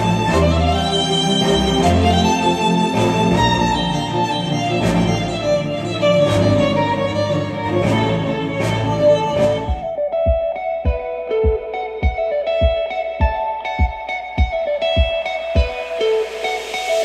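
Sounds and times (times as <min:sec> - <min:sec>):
violin and strings music: 0:00.0 - 0:17.0.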